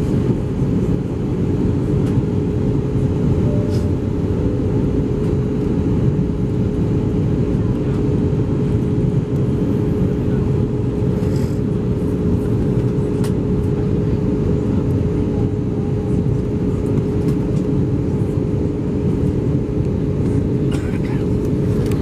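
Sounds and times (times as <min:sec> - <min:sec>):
airliner cabin roar: 0:00.0 - 0:22.0
steady hum tone: 0:00.0 - 0:22.0.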